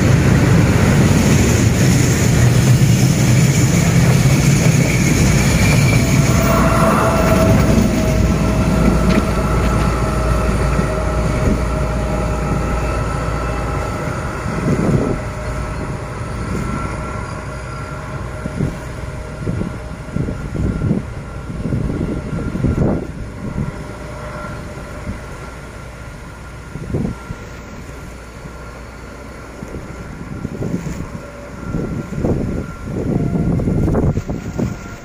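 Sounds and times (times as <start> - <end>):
freight train rumble: 0.0 - 35.0
steady whining tones: 0.0 - 35.0.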